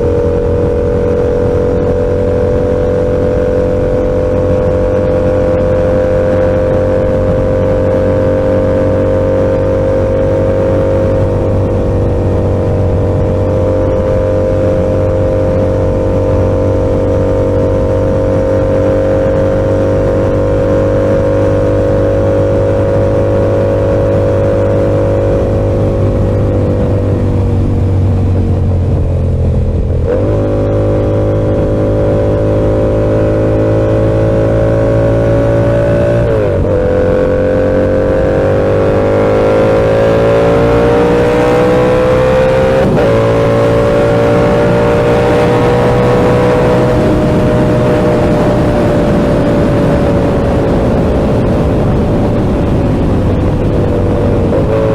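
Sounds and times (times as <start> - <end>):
gear change: 0.0 - 54.9
motorcycle engine cruising: 0.0 - 54.9.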